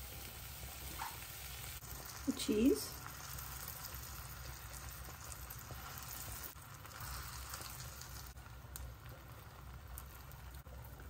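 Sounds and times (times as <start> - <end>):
bread sizzling in skillet: 0.0 - 11.0.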